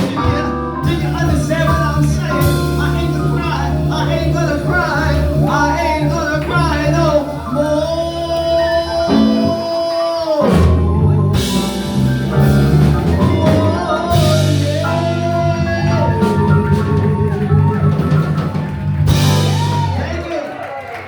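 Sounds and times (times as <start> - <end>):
live blues band playing: 0.0 - 20.6.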